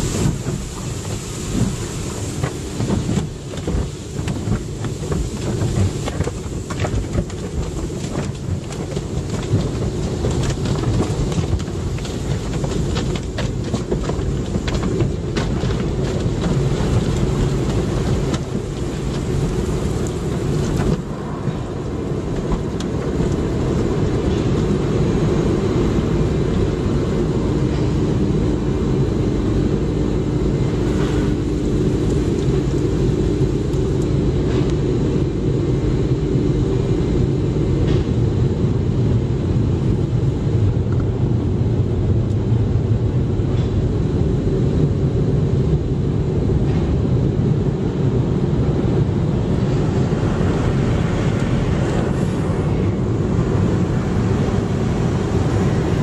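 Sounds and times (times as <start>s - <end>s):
car wash water spray: 0.0s - 56.0s
steady hum: 0.0s - 56.0s.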